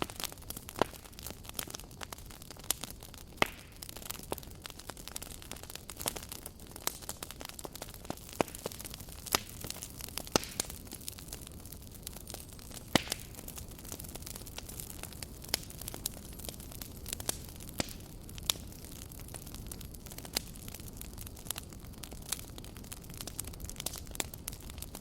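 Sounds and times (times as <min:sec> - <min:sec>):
low hiss of flame: 0:00.0 - 0:25.0
wood crackling and popping: 0:00.0 - 0:25.0.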